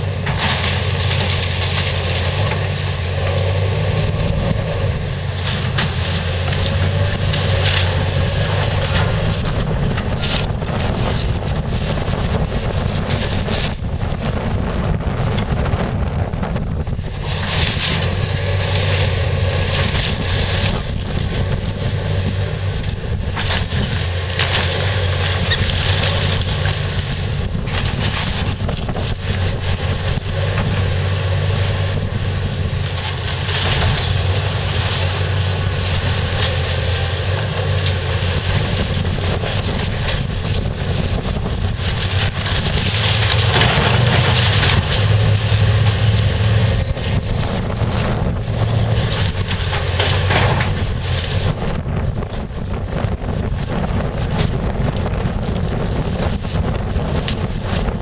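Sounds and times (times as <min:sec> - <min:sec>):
excavator diesel engine: 0:00.0 - 0:58.0
wood crunching and cracking: 0:00.0 - 0:58.0.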